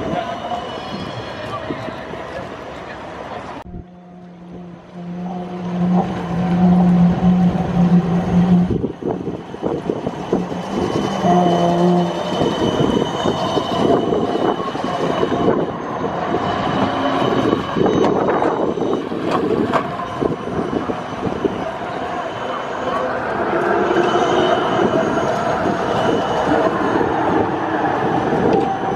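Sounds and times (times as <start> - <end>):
high wheel squeal: 0.0 - 3.2, 3.8 - 28.9
tram low hum: 0.0 - 28.9.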